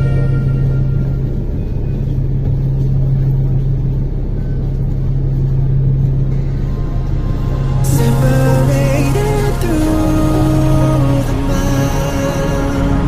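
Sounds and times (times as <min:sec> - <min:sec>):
cars driving past: 0:00.0 - 0:13.0
low engine hum and rumble: 0:00.0 - 0:13.0.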